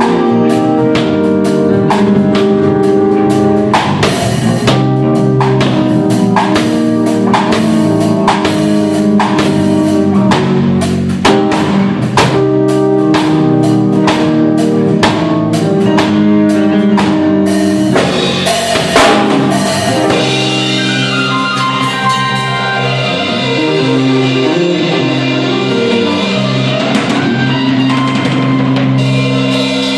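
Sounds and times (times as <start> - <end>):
drum beat: 0.0 - 16.3, 16.9 - 29.9
electric bass: 0.0 - 29.9
keyboard chords: 0.0 - 29.9.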